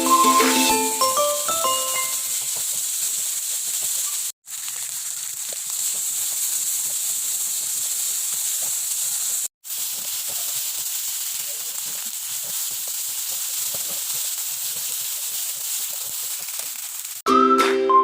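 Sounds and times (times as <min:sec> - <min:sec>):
food frying in hot oil: 0:00.5 - 0:17.3.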